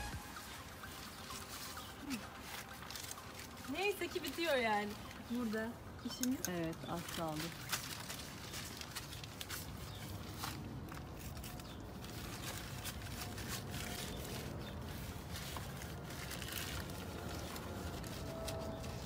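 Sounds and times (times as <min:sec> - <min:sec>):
outdoor background hum: 0:00.0 - 0:19.0.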